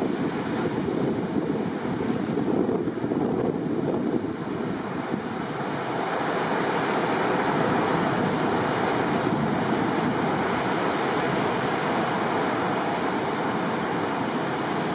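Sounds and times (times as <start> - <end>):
heavy surf breaking: 0.0 - 14.9
wind on microphone: 0.0 - 14.9.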